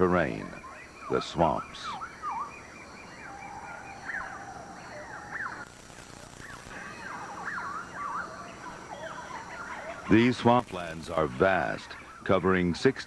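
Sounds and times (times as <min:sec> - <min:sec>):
whistled animal calls: 0:00.0 - 0:12.6.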